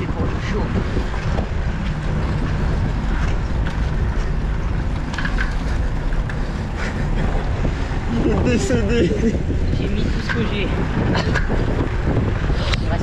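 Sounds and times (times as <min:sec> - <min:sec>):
tyres rumbling on asphalt: 0:00.0 - 0:13.0
wind buffeting microphone: 0:00.0 - 0:13.0.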